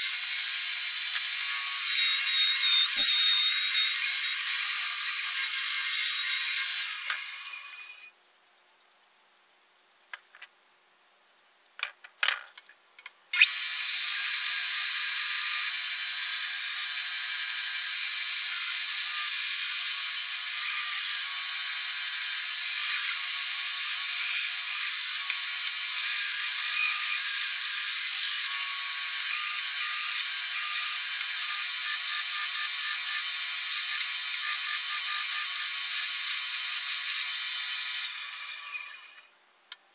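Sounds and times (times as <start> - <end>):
bandsaw cutting wood: 0.0 - 8.1, 13.4 - 39.3.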